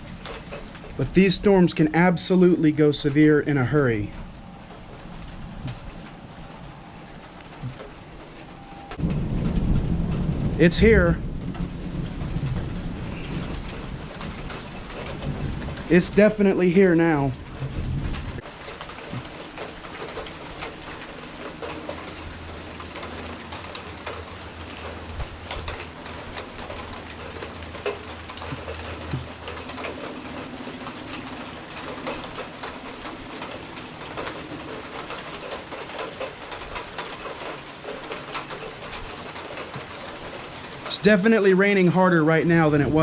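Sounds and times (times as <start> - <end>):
heavy rain: 0.0 - 43.0
raindrops pattering on hard surfaces: 0.0 - 43.0.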